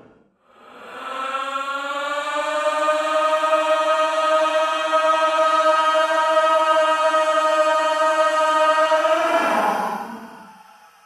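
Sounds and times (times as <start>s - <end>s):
eerie choir-like vocal drone: 0.0s - 11.0s.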